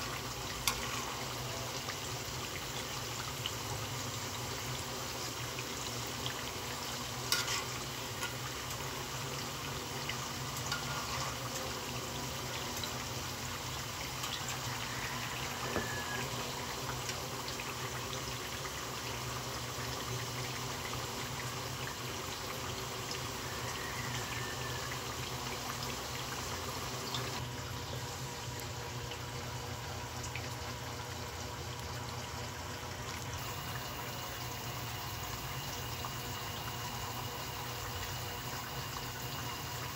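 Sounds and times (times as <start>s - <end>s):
food deep-frying in oil: 0.0s - 39.9s.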